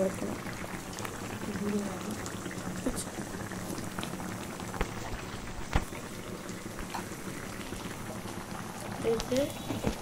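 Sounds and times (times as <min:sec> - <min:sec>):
curry bubbling and popping: 0:00.0 - 0:10.0.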